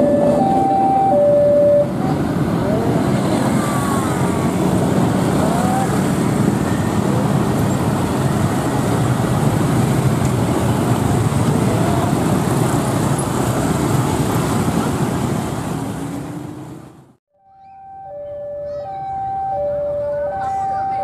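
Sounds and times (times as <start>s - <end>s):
train wheels rumbling on track: 0.0s - 17.2s.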